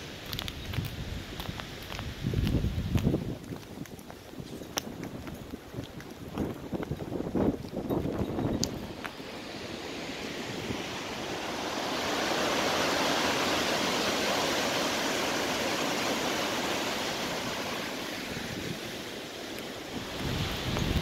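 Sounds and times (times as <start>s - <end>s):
wind rushing through leaves: 0.0s - 21.0s.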